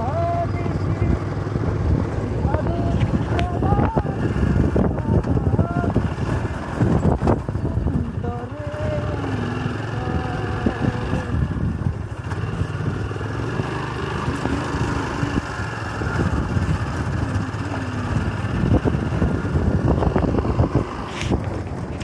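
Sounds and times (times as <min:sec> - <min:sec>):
knocks and rattles on dirt track: 0:00.0 - 0:22.0
motorcycle engine running: 0:00.0 - 0:22.0.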